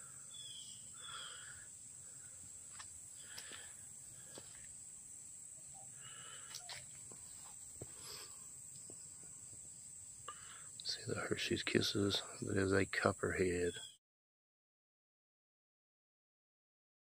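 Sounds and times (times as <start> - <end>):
high insect drone: 0.0 - 13.9
faint chirps: 0.0 - 14.0.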